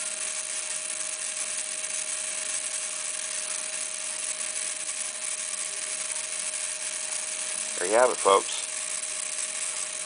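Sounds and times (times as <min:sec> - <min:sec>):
rc helicopter motor whine: 0:00.0 - 0:10.0.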